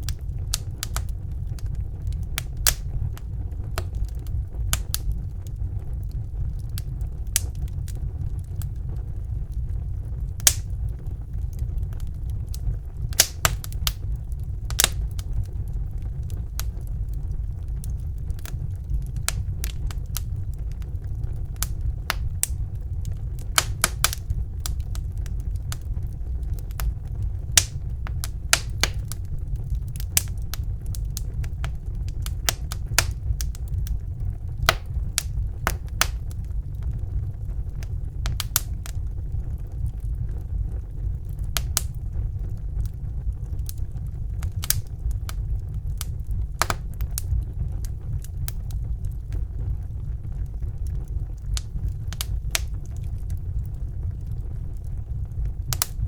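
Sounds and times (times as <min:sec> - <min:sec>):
wood fire burning: 0:00.0 - 0:56.0.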